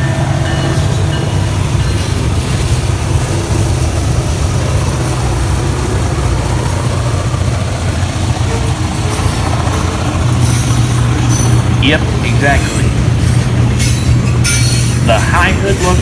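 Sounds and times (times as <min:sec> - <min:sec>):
locomotive engine rumble: 0:00.0 - 0:16.0
rail noise: 0:00.0 - 0:16.0.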